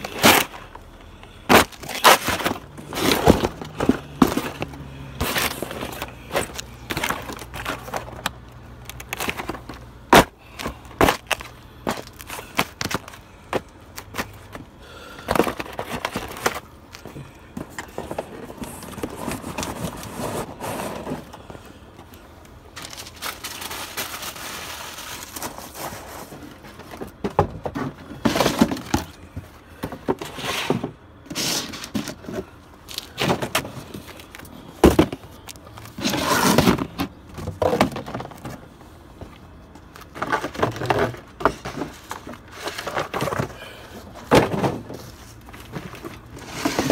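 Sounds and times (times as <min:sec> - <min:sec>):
cardboard boxes crunching underfoot: 0:00.0 - 0:21.7, 0:22.6 - 0:46.9.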